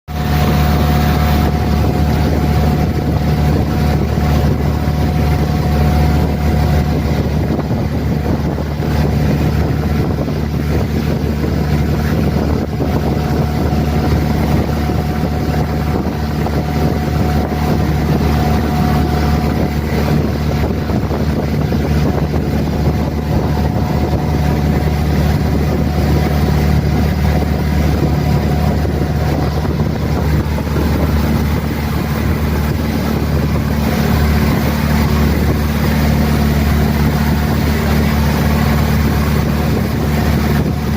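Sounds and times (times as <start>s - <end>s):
boat motor running: 0.1s - 40.9s
wind buffeting microphone: 0.1s - 40.9s.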